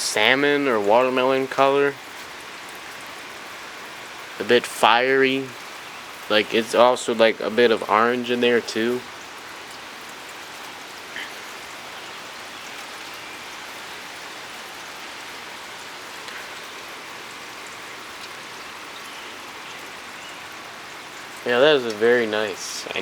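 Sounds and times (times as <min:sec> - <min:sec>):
steady rain hiss: 0:00.0 - 0:23.0
raindrop ticks: 0:00.2 - 0:23.0.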